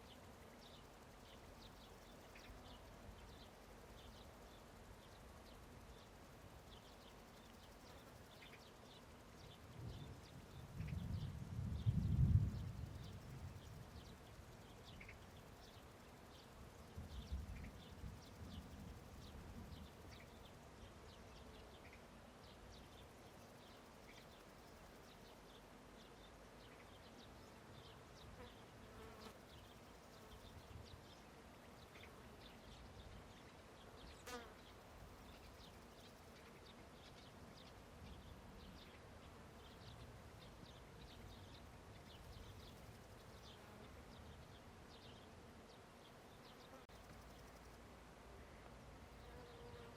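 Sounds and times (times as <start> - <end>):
insects buzzing: 0.0 - 49.9.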